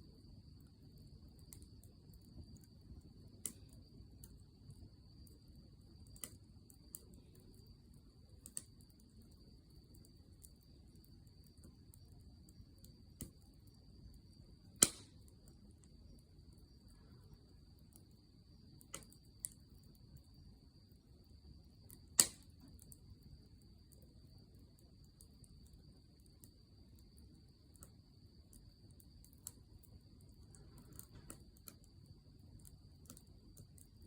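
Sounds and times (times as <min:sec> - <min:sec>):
low rumble of flames: 0:00.0 - 0:34.0
campfire crackling and popping: 0:00.6 - 0:34.0.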